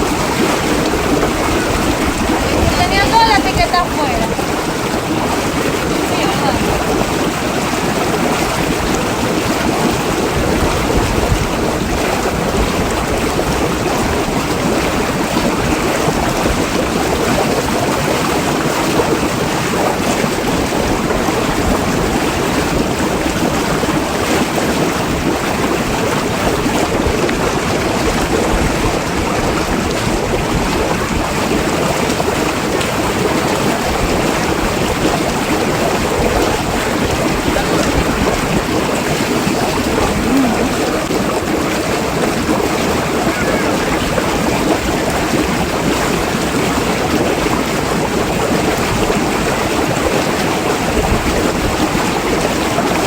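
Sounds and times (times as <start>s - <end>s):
churning water rushing: 0.0s - 53.0s.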